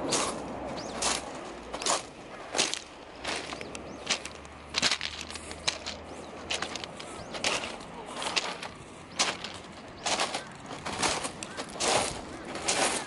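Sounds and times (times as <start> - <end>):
footsteps on pebbles: 0.0 - 13.0.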